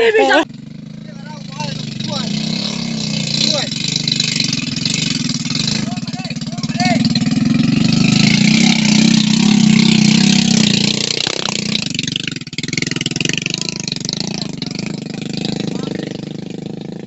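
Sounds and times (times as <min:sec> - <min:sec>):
small motorcycle engine: 0:00.0 - 0:17.0.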